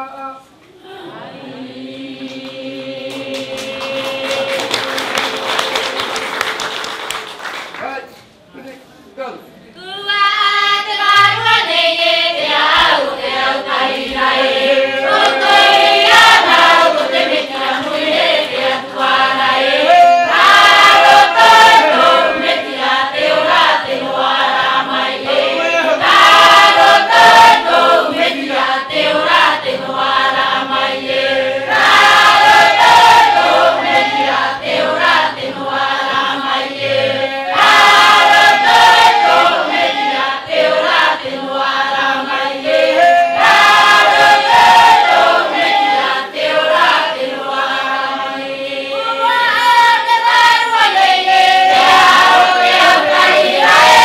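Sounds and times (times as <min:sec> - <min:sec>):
choir singing unaccompanied: 0:00.0 - 0:07.2, 0:09.8 - 0:54.0.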